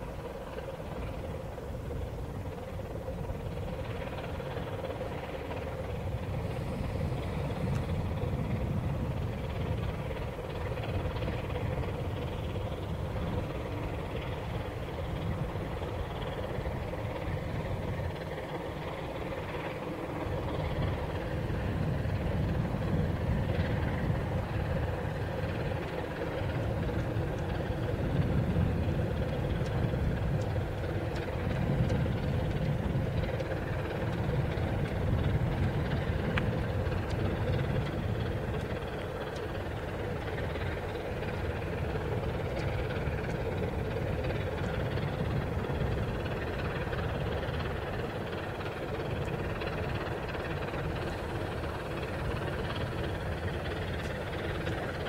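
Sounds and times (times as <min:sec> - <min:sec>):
ship diesel engine humming: 0:00.0 - 0:55.0.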